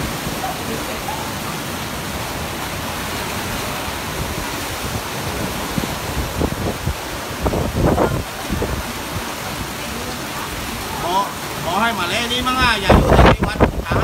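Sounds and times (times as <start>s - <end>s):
wind buffeting microphone: 0.0s - 11.0s, 12.2s - 14.0s
heavy surf: 0.0s - 14.0s
storm-force wind: 0.0s - 14.0s.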